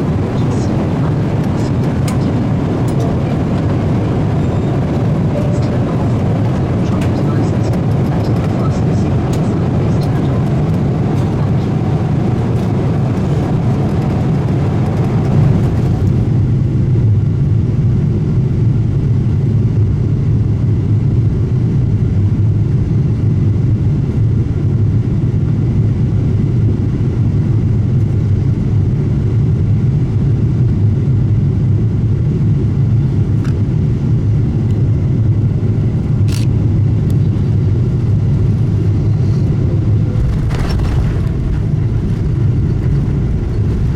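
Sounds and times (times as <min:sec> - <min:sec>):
engine and airflow rumble: 0:00.0 - 0:43.9.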